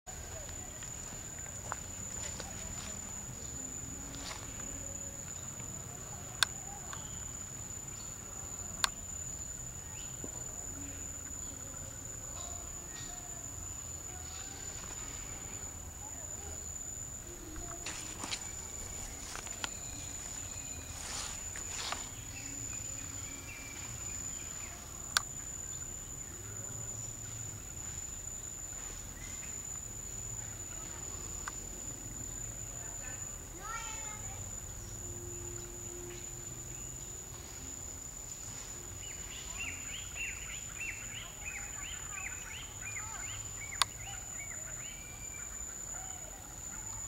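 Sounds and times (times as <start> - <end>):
high-pitched insect trill: 0.1 - 47.0.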